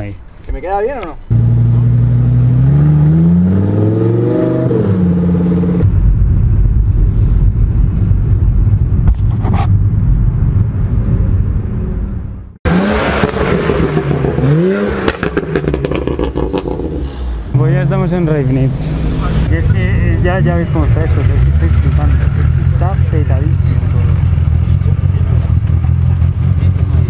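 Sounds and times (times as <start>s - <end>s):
car engines revving: 1.3s - 6.2s, 7.7s - 27.0s.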